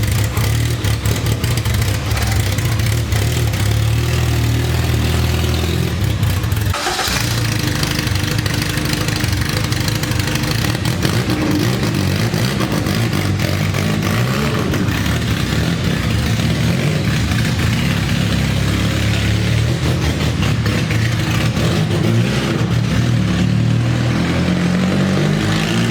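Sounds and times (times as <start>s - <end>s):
four-cylinder engine running: 0.0s - 25.9s.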